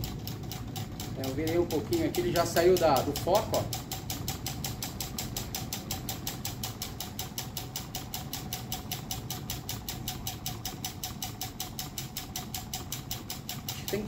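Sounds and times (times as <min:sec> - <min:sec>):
engine rhythmic ticking: 0:00.0 - 0:14.0.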